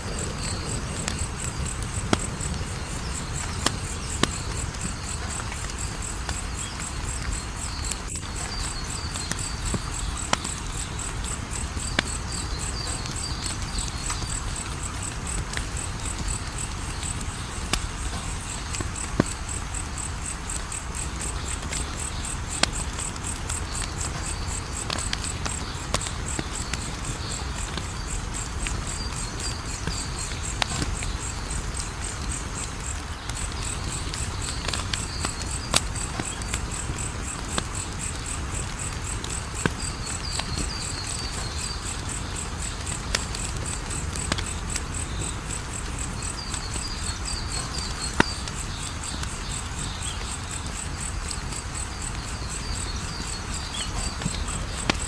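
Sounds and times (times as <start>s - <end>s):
insects chirping: 0.0s - 55.0s
wood fire crackling: 0.0s - 55.0s.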